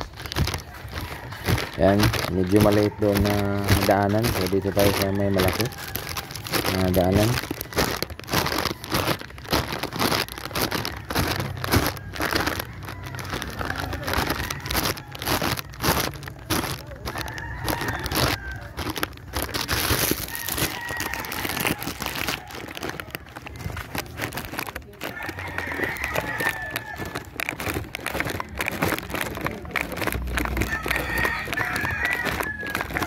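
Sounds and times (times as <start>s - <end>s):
footsteps crunching on gravel: 0.0s - 33.0s.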